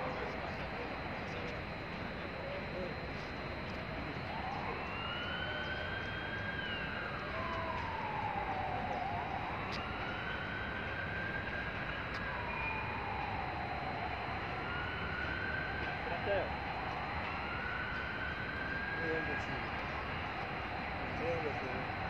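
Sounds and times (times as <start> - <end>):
city noise: 0.0 - 22.0
siren wailing: 0.0 - 22.0.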